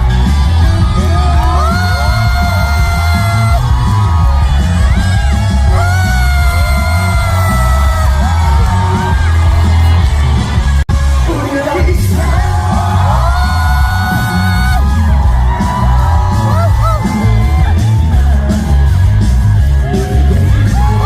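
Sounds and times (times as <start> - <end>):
fans yelling and whooping: 0.0 - 21.0
live song over a pa: 0.0 - 21.0.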